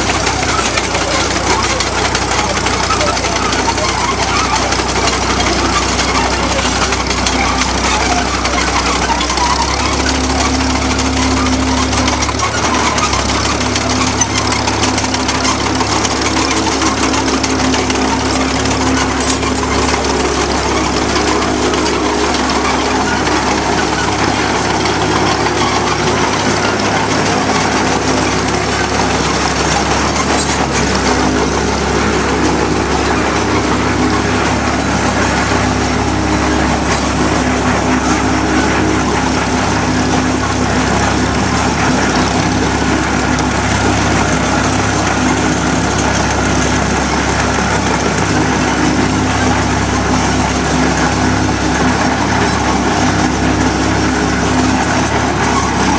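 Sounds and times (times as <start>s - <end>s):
tractor engine rumbling: 0.0s - 55.9s.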